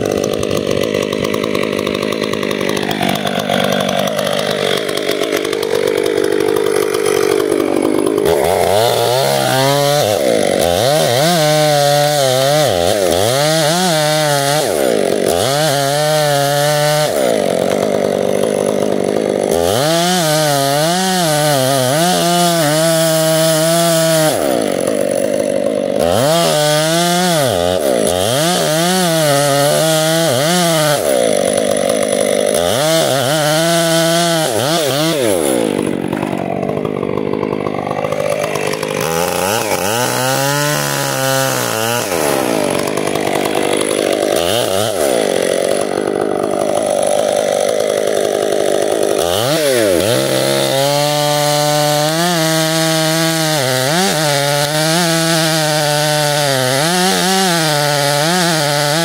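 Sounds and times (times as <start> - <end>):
chainsaw cutting into tree trunk: 0.0 - 59.0.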